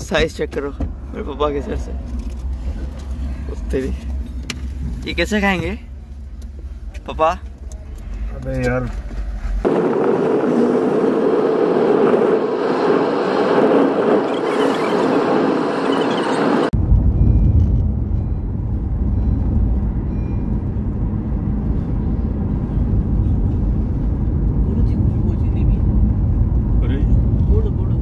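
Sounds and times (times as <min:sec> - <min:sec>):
road and traffic noise: 0:00.0 - 0:28.0.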